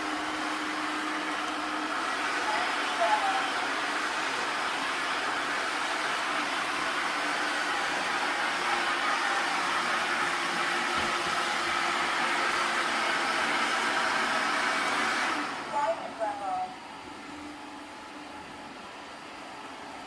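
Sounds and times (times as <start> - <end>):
robot vacuum cleaner running: 0.0 - 20.0.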